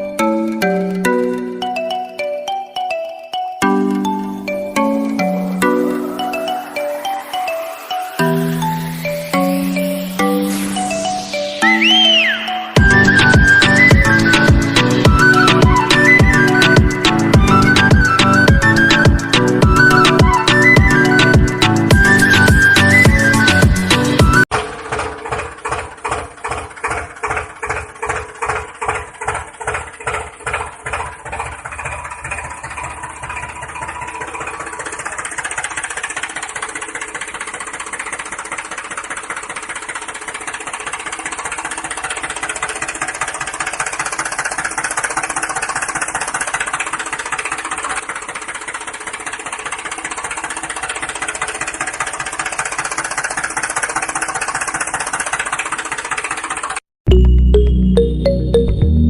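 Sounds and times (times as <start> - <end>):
tractor engine chugging: 0.0 - 58.0.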